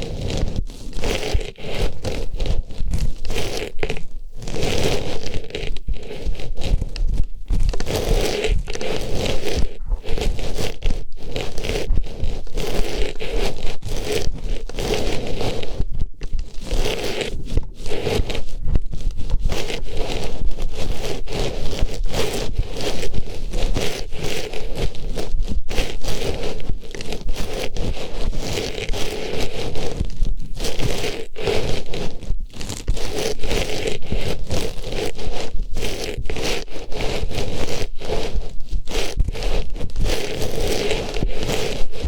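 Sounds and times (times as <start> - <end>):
artificial flower rubbing microphone: 0.0 - 42.0.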